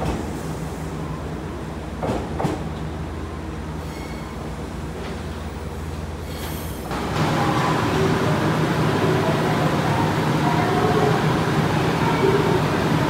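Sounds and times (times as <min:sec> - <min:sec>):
hum of standing trains: 0:00.0 - 0:13.0
train rumbling: 0:00.0 - 0:13.0.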